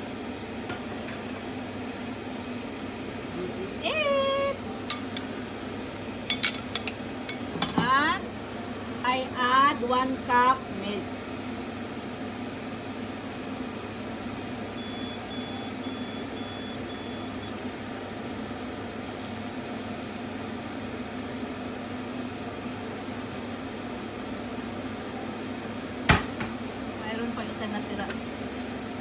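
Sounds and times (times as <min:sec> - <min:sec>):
kitchen machinery humming: 0:00.0 - 0:29.0.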